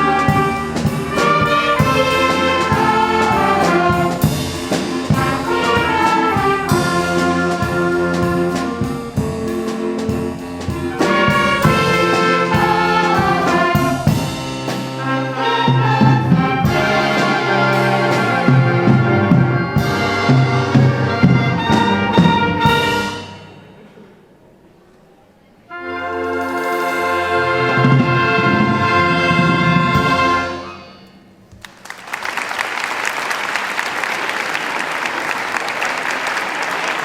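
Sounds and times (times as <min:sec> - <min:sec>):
brass ensemble playing orchestral music: 0:00.0 - 0:24.0, 0:25.7 - 0:31.3.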